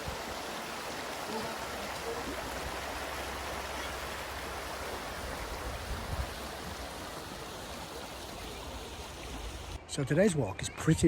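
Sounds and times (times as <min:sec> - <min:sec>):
river water rushing: 0:00.0 - 0:09.8.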